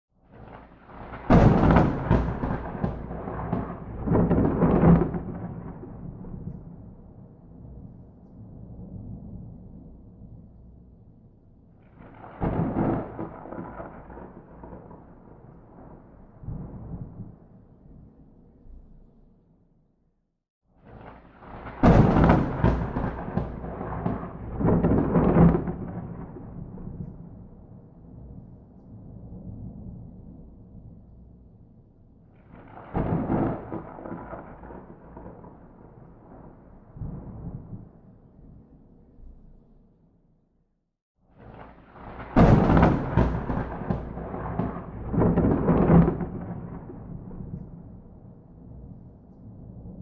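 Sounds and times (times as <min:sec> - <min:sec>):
thunder crack and rumble: 0:00.3 - 0:18.8, 0:20.8 - 0:39.5, 0:41.3 - 0:50.0.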